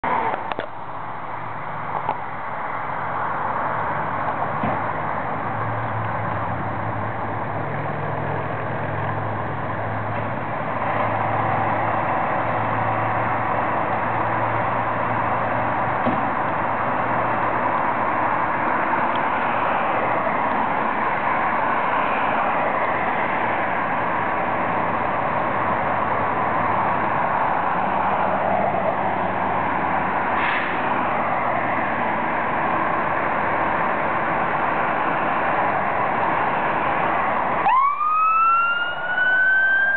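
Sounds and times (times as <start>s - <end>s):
fire truck diesel engine: 0.0s - 39.9s.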